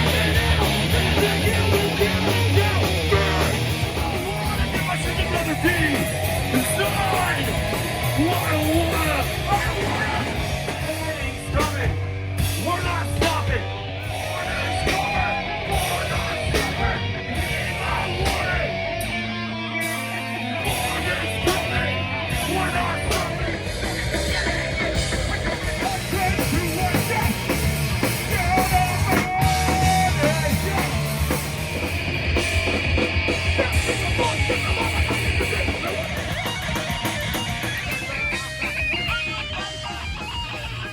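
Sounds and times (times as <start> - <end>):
punk rock band playing: 0.0 - 40.9.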